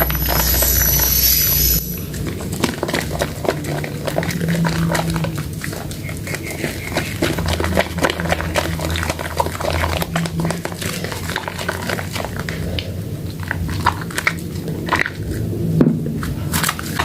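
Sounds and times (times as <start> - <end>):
low steady hum: 0.0 - 17.0
wet soap lather crackles: 2.0 - 15.6.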